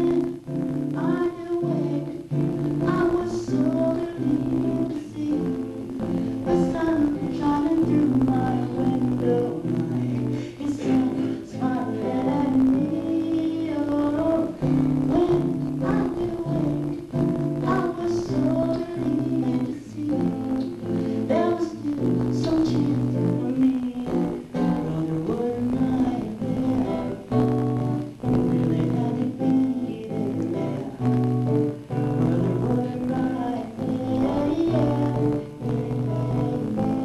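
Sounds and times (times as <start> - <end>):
acoustic guitar: 0.0 - 37.0
woman singing: 0.0 - 37.0.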